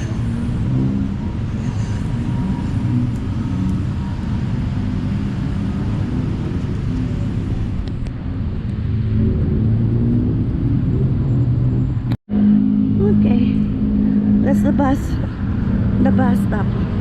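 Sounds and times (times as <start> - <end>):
vehicle engines passing: 0.0 - 17.0.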